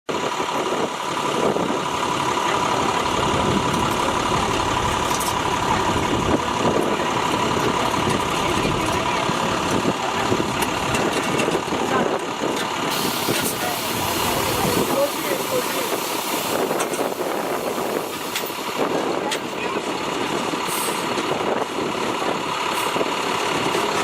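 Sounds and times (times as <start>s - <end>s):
engine running: 0.1s - 24.0s.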